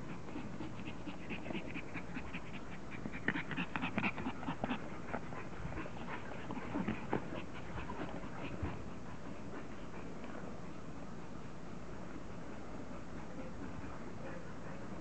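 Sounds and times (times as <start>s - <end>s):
puppies panting: 0.0s - 15.0s.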